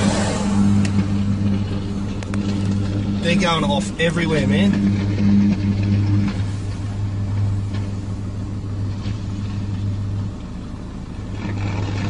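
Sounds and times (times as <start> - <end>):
low hum inside a car: 0.0 - 12.0
power lines crackling: 0.0 - 12.0.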